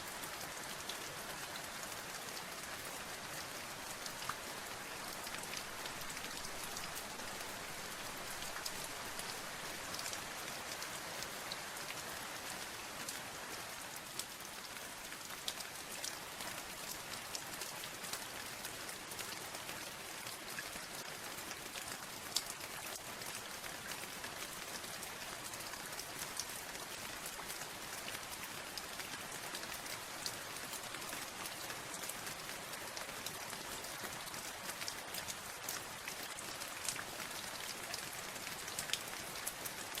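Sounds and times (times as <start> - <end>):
rain drops on hard surface: 0.0 - 40.0.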